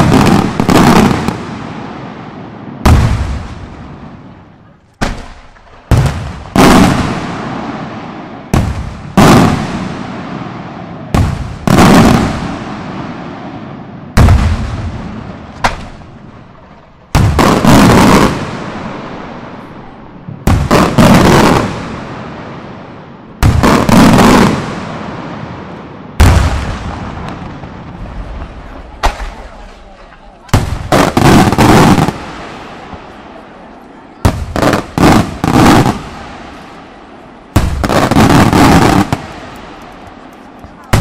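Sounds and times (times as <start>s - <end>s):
long rolling echo: 0.0s - 41.0s
loud firework bangs: 0.0s - 41.0s.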